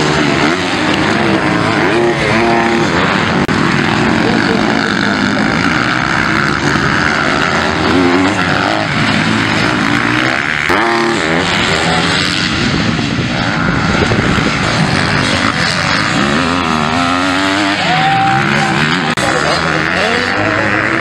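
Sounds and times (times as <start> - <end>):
engine revving through gears: 0.0 - 21.0
motocross bike engines buzzing: 0.0 - 21.0.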